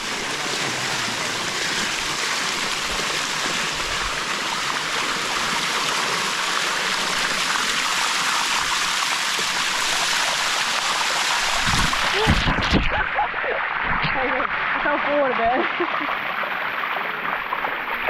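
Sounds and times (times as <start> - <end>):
water rushing over rock: 0.0 - 18.0.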